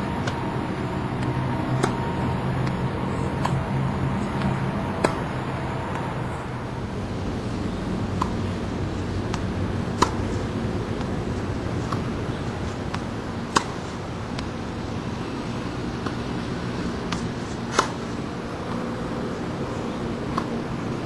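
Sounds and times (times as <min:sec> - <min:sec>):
tennis balls struck by rackets: 0:00.1 - 0:00.5, 0:01.2 - 0:06.1, 0:07.6 - 0:21.0.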